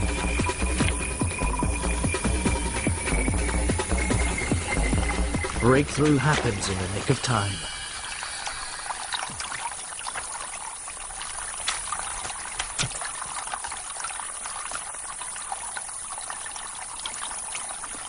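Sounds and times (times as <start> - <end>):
water splashes and drips: 0.0 - 18.0
water trickling through mud channel: 0.0 - 18.0.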